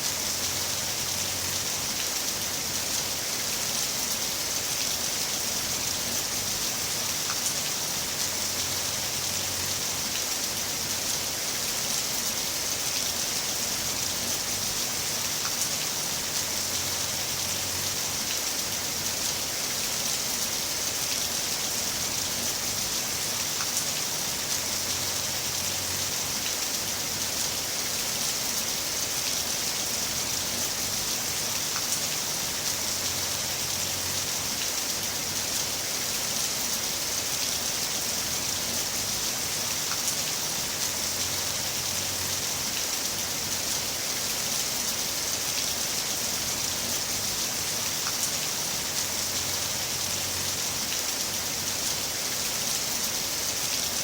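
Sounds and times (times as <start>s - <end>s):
heavy rain hissing: 0.0s - 54.0s
rain drops ticking: 0.0s - 54.0s.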